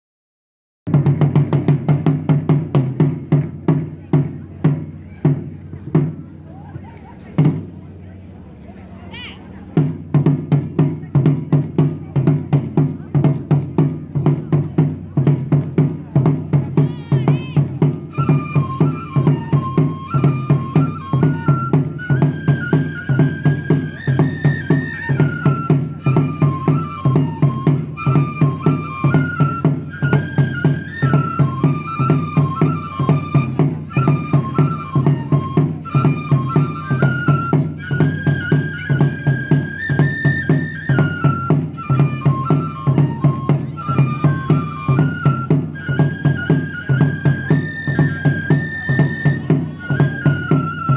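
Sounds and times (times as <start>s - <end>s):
taiko drums playing fast beat: 0.9s - 7.9s, 9.7s - 50.9s
bamboo flute melody: 0.9s - 50.9s.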